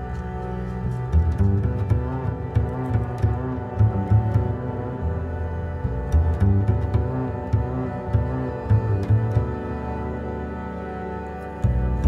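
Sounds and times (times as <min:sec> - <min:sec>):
deep bass line: 0:00.0 - 0:12.0.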